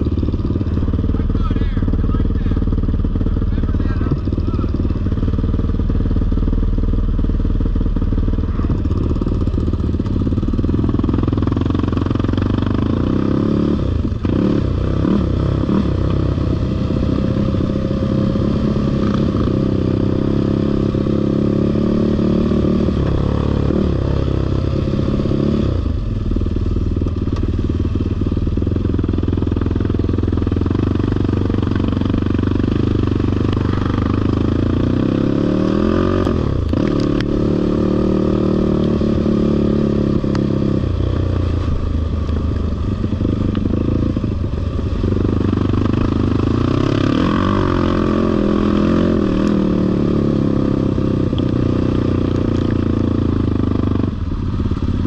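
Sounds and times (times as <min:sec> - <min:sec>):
atv engine under throttle: 0:00.0 - 0:55.0.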